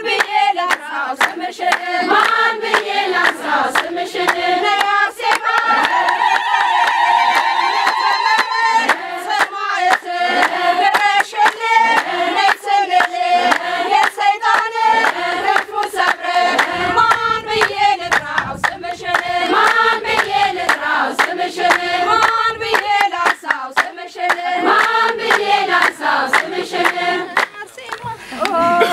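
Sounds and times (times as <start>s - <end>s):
rhythmic hand clapping: 0.0s - 28.9s
women singing a hymn: 0.0s - 28.9s.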